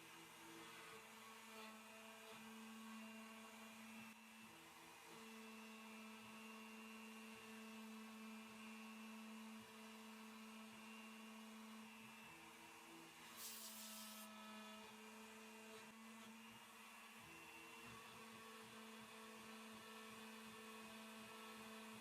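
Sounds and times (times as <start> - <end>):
router hum tones: 0.0 - 22.0.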